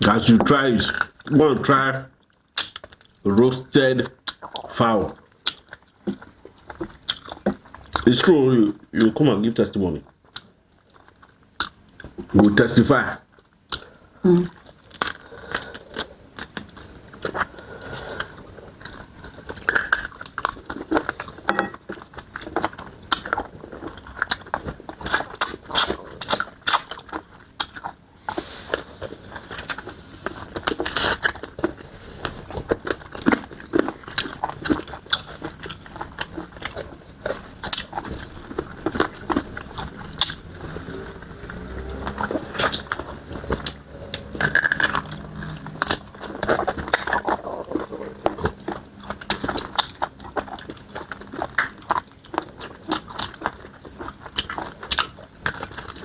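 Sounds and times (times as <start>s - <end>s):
chewing and biting food: 2.2s - 3.2s, 4.1s - 56.0s.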